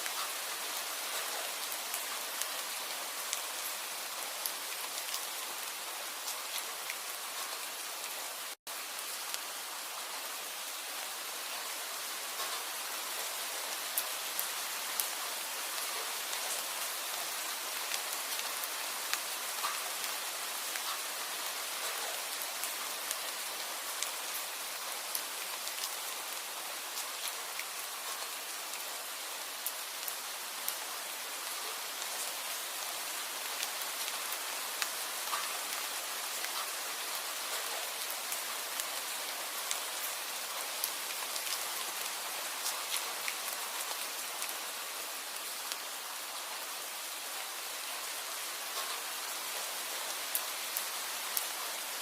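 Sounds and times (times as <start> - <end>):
raindrops ticking on a surface: 0.0 - 10.8, 11.4 - 52.0
steady rain: 0.0 - 52.0.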